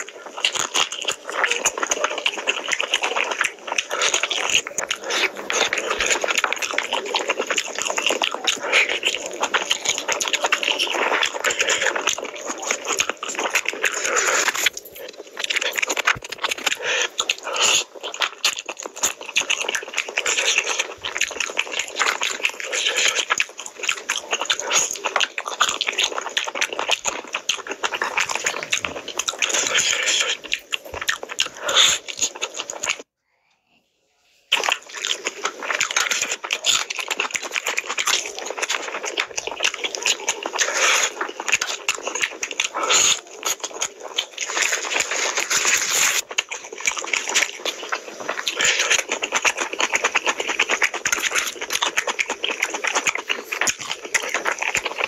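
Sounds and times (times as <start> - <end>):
wet chewing and lip-smacking: 0.0 - 33.1, 34.5 - 55.0.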